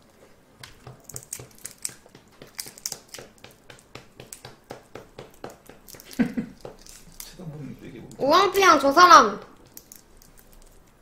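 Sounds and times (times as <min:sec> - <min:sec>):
shrimp shells crackling: 0:00.6 - 0:08.2, 0:09.5 - 0:11.0.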